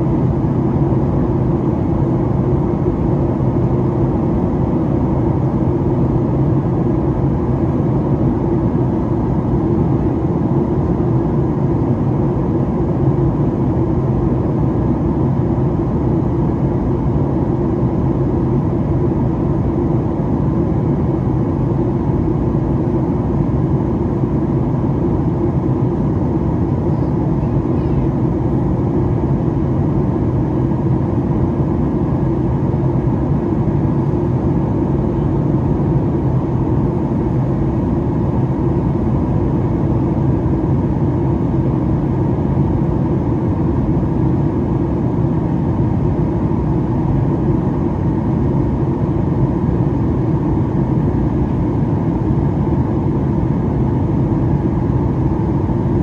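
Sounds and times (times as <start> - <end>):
airflow rushing in cabin: 0.0 - 56.0
jet engines droning: 0.0 - 56.0
low even hum: 0.0 - 56.0.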